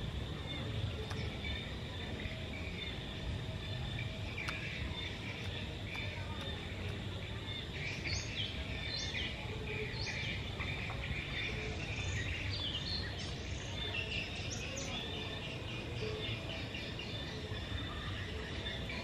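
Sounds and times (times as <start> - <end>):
birds chirping: 0.0 - 19.0
steady low background noise: 0.0 - 19.0.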